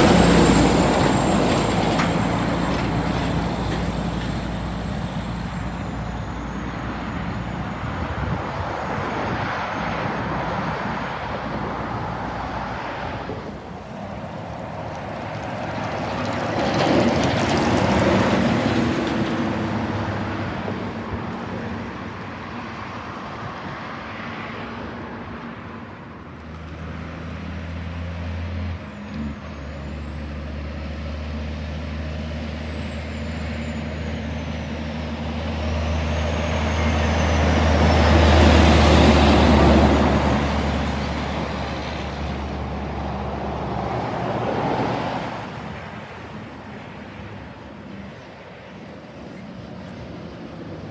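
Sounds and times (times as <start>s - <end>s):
truck diesel engine passing: 0.0s - 24.6s, 26.4s - 50.9s.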